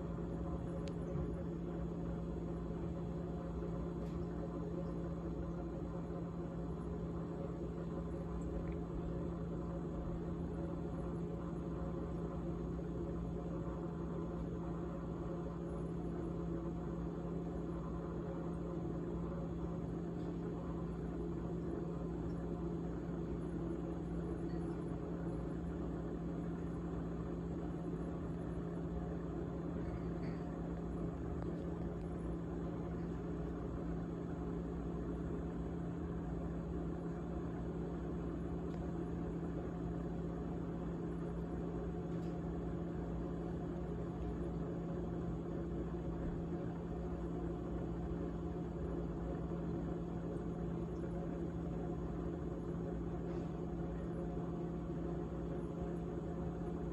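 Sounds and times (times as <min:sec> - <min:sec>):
refrigerator humming rattle: 0:00.0 - 0:56.9.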